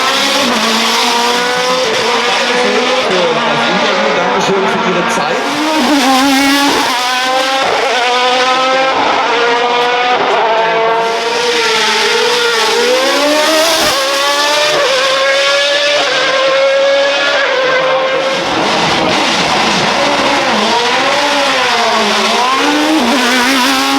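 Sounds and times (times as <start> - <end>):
race car accelerating: 0.0 - 23.9.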